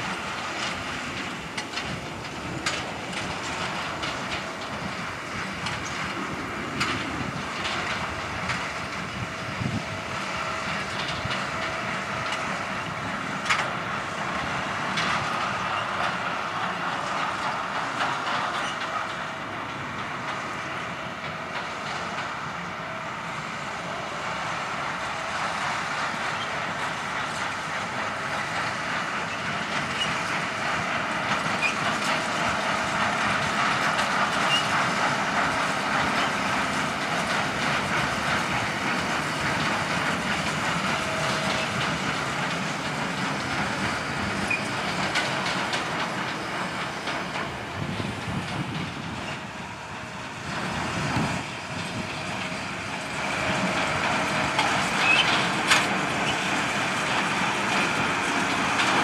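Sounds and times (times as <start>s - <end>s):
tractor engine: 0.0s - 59.0s.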